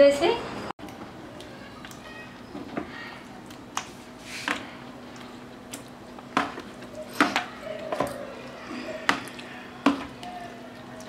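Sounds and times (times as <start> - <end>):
soft wet squishing: 0.8 - 11.0.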